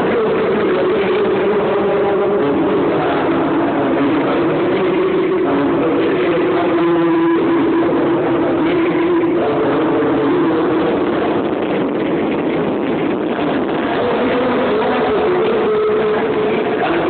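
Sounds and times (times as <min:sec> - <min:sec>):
loud distorted amplified music: 0:00.0 - 0:17.0.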